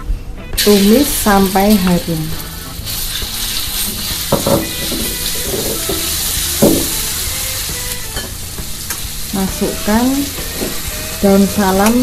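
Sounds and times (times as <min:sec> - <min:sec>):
paste sizzling in hot oil: 0:00.6 - 0:12.0
spatula scraping wok: 0:00.6 - 0:12.0.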